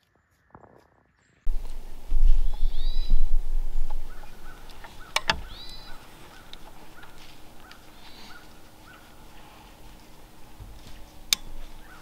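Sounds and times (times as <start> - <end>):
low rumble: 1.5 - 12.0
sharp clicks: 1.5 - 12.0
small bird chirps: 1.5 - 12.0
harsh arched bird call: 1.6 - 12.0.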